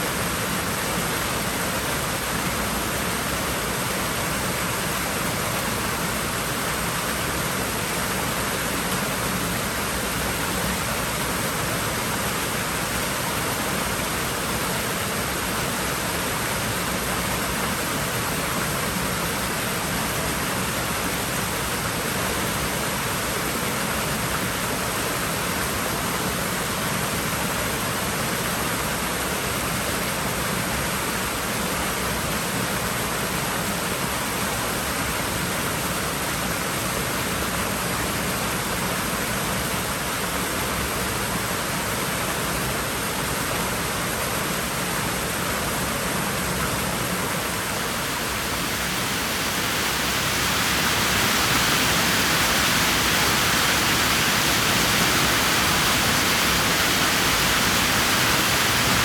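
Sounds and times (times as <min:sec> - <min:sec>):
pool water running: 0:00.0 - 0:59.0.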